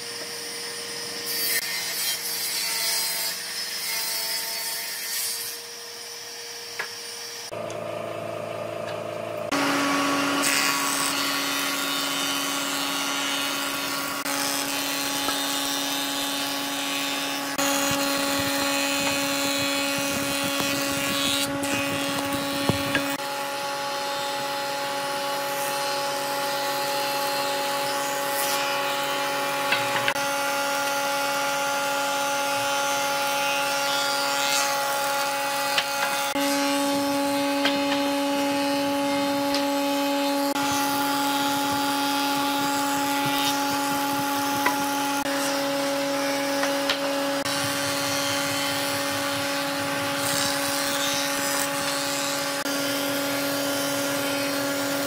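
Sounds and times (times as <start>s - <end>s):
electric power tool whining: 6.7s - 55.0s.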